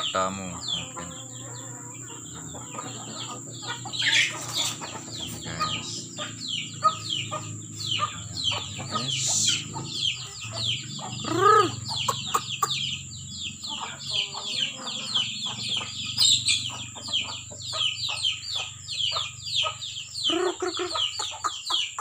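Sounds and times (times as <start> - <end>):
chicks peeping: 0.0 - 22.0
hen calling: 0.0 - 22.0
hen clucking: 0.0 - 22.0.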